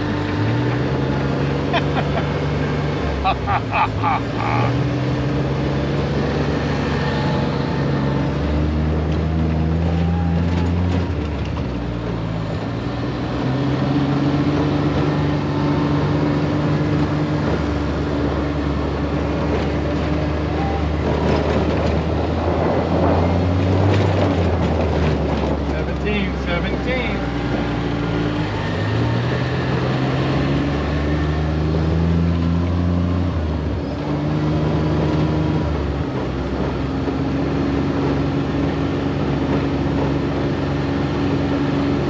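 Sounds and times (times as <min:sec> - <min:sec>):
utility vehicle engine running: 0:00.0 - 0:42.0.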